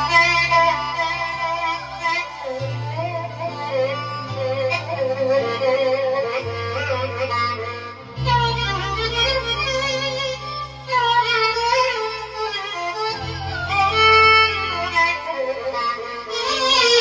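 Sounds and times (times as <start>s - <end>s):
keyboard traditional music: 0.0s - 17.0s.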